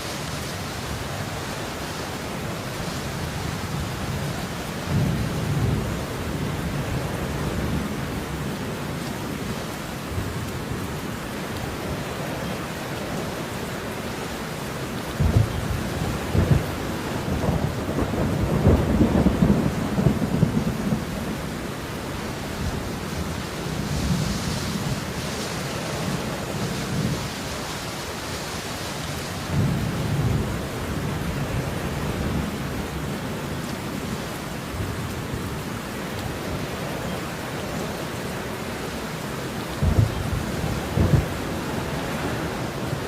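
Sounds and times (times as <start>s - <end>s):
thunder rumbling: 0.0s - 11.0s, 15.1s - 35.7s, 39.7s - 43.0s
steady rainfall: 0.0s - 43.0s.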